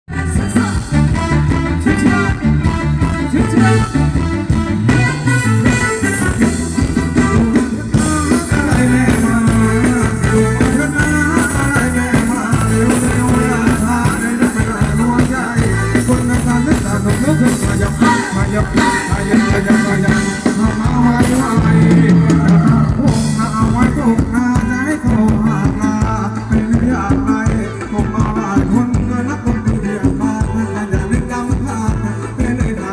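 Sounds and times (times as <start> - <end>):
electric guitar: 0.1 - 32.9
live band dance music: 0.1 - 32.9
person singing: 0.1 - 32.9.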